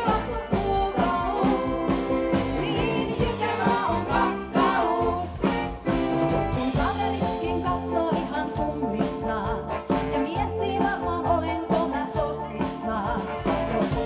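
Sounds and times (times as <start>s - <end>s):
woman singing into microphone: 0.0s - 5.7s, 6.6s - 14.0s
live band playing: 0.0s - 14.0s.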